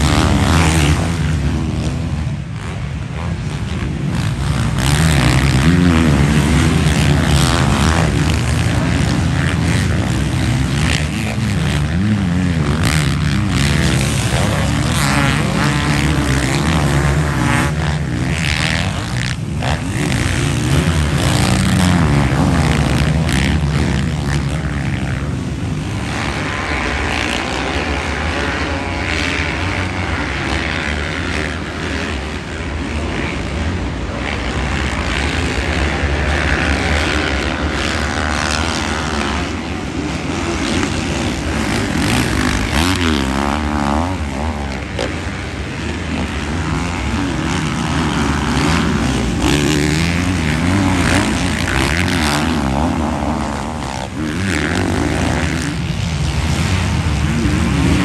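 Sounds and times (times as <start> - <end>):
motocross bikes revving past: 0.0 - 58.0.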